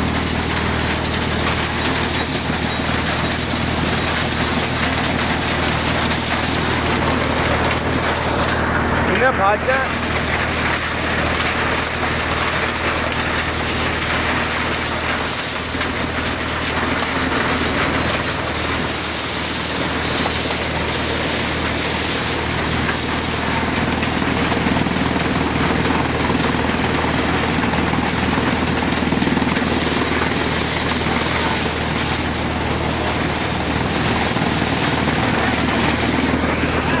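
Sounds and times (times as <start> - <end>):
maize thresher droning: 0.0 - 37.0.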